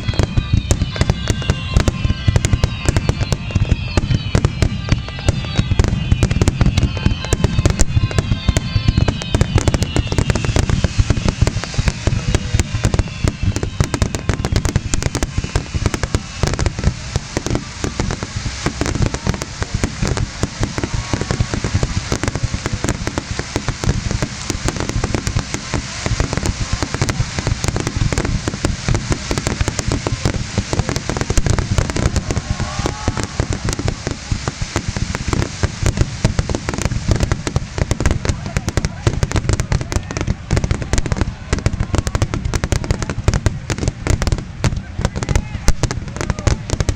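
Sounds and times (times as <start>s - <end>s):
falling firework whistles: 0.0s - 46.9s
fireworks bursting and booming: 0.0s - 46.9s.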